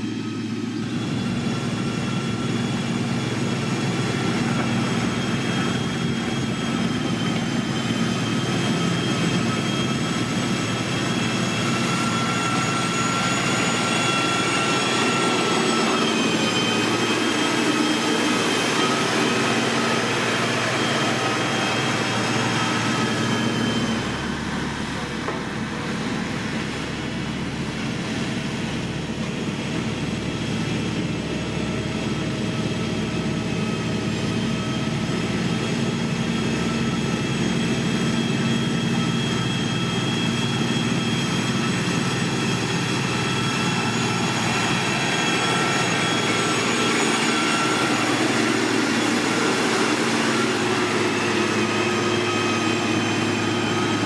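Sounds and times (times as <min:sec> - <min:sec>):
heavy machinery diesel engines: 0:00.0 - 0:54.0
machinery whine: 0:00.0 - 0:54.0.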